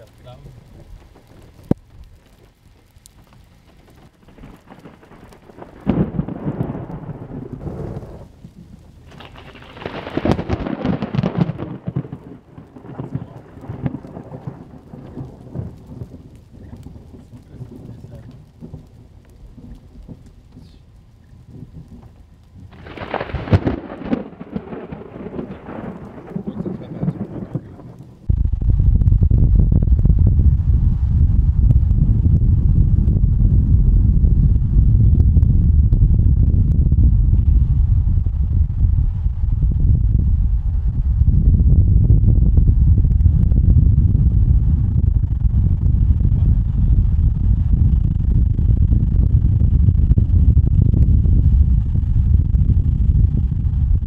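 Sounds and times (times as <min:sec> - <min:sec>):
faint storm noise: 0:00.0 - 0:54.0
loud thunder peal rumbling: 0:03.6 - 0:54.0.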